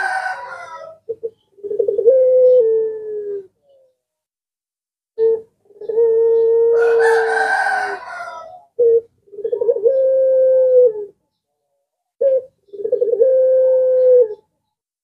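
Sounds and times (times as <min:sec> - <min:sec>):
dove cooing: 0:00.0 - 0:04.0, 0:05.2 - 0:11.2, 0:12.2 - 0:14.5.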